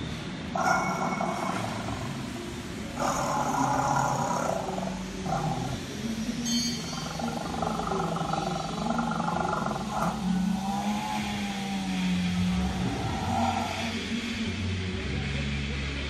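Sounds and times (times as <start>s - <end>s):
big cat growl through speaker: 0.6s - 6.2s, 7.0s - 14.2s.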